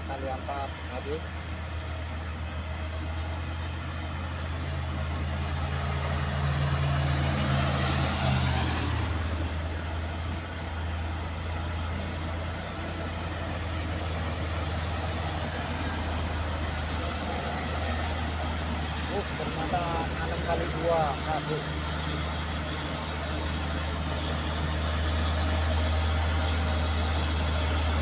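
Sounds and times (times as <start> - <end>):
truck diesel engine climbing: 0.0 - 28.0.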